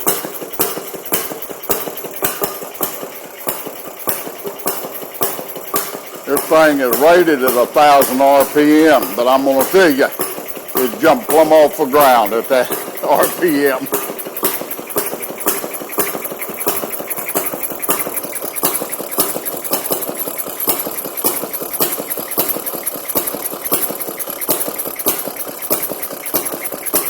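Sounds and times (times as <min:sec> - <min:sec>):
two-stroke engine popping: 0:00.0 - 0:27.0.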